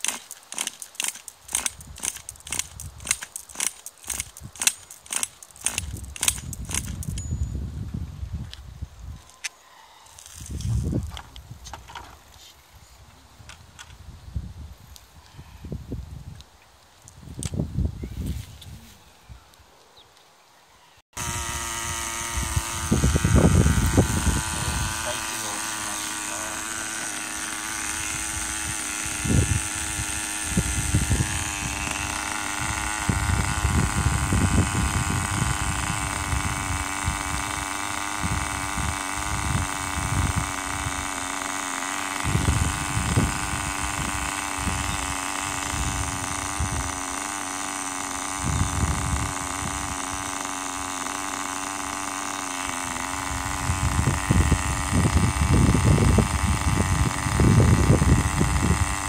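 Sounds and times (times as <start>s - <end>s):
small engine buzzing idle: 0.0s - 7.4s, 9.8s - 12.1s, 21.2s - 59.0s.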